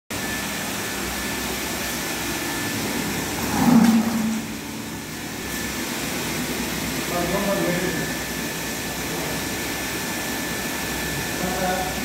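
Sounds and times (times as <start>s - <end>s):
pumps humming: 0.1s - 12.0s.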